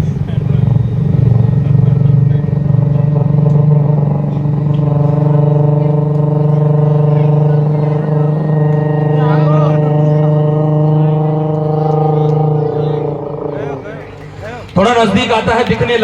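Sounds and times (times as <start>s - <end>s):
man imitating helicopter: 0.0s - 16.0s.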